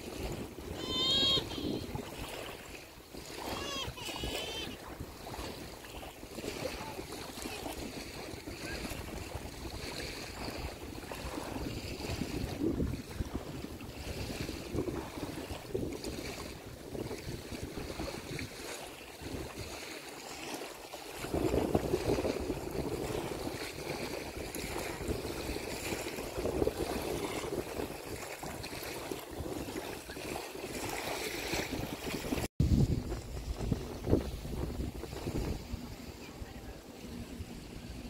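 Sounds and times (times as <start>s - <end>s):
wind gusting against microphone: 0.0s - 19.8s, 21.1s - 38.0s
waves lapping on shore: 0.0s - 38.0s.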